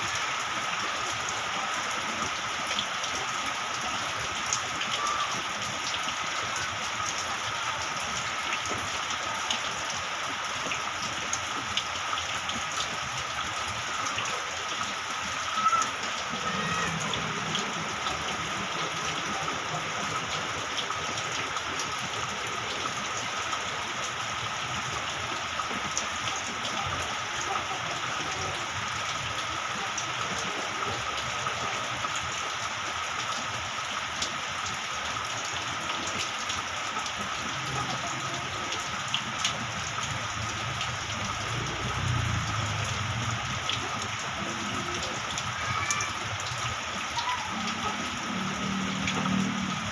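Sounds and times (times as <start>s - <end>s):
rain on hard surface: 0.0s - 49.9s.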